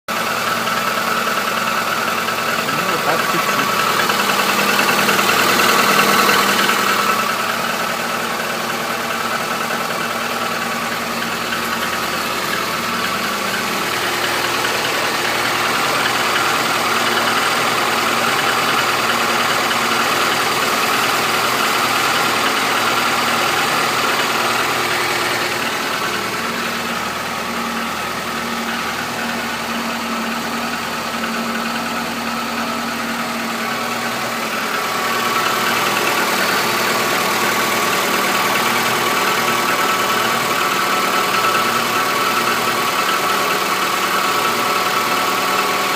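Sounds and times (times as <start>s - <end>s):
car engine idling: 0.1s - 45.9s
engine knock: 0.1s - 45.9s.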